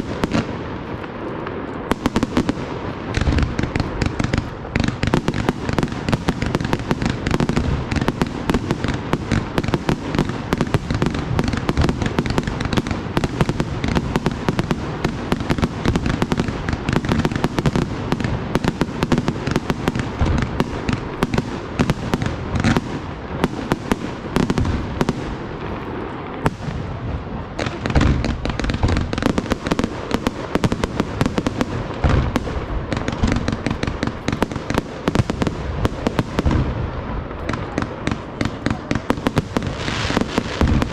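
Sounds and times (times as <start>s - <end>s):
booming firework bursts: 0.0s - 40.9s
fireworks cracks and bangs: 0.0s - 40.9s.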